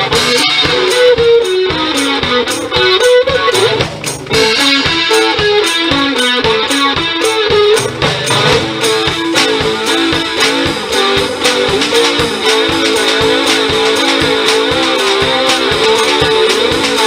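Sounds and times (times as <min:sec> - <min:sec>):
drum kit steady beat: 0:00.0 - 0:17.0
electric guitar riff: 0:00.0 - 0:17.0.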